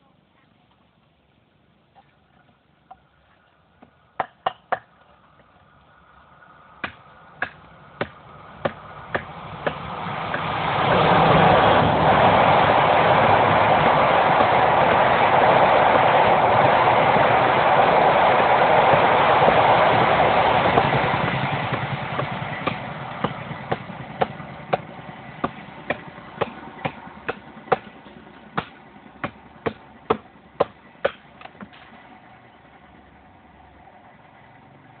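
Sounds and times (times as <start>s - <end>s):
passing vehicle: 5.7s - 35.0s.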